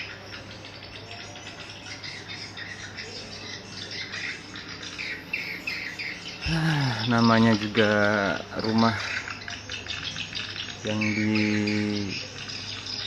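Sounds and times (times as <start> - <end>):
steady low hum: 1.9 - 12.7.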